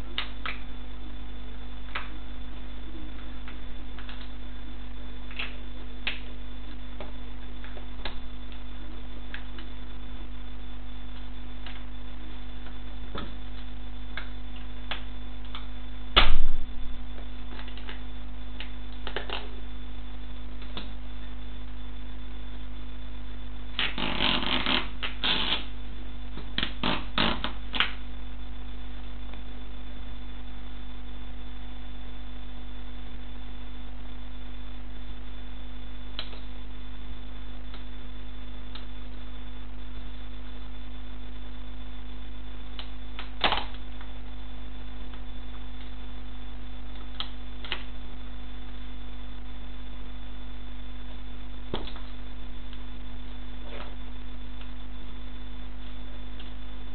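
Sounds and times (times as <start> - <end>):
electrical hum: 0.0 - 56.9.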